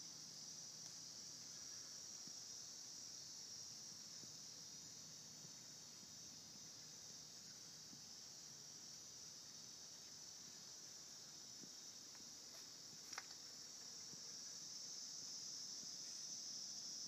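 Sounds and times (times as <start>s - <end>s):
faint high-pitched hiss: 0.0s - 17.0s.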